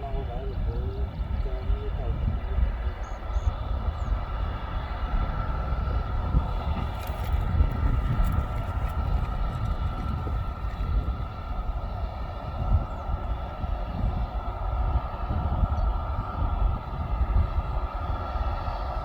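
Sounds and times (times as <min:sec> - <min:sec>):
aircraft engine whining and rumbling: 0:00.0 - 0:19.0.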